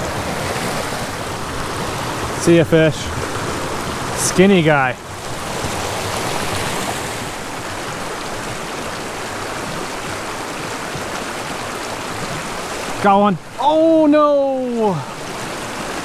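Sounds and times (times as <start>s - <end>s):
creek running over rocks: 0.0s - 16.0s.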